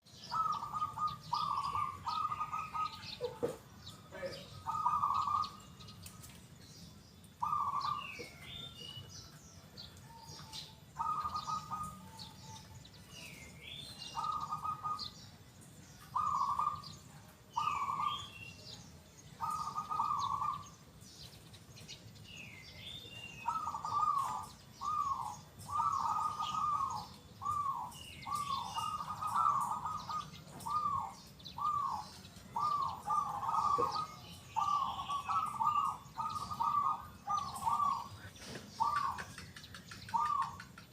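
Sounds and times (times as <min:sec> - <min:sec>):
dove cooing: 0:00.2 - 0:05.9, 0:07.4 - 0:08.8, 0:10.1 - 0:15.2, 0:16.0 - 0:18.3, 0:19.4 - 0:20.8, 0:23.2 - 0:40.9
bird chirping high gliding notes: 0:03.9 - 0:39.4.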